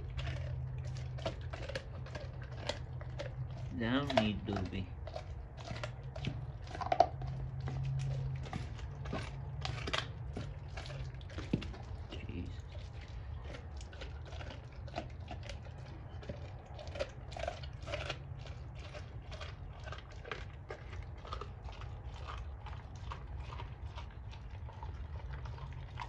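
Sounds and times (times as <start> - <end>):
dog chewing a bone: 0.0 - 26.0
low hum: 0.0 - 26.0.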